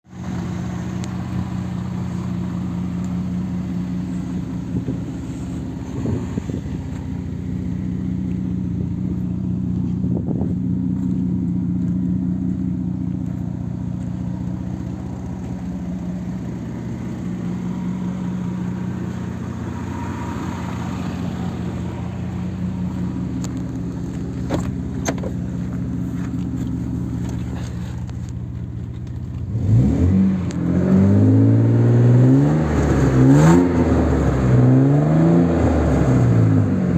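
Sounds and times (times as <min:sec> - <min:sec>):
car engine idling: 0:00.0 - 0:34.7.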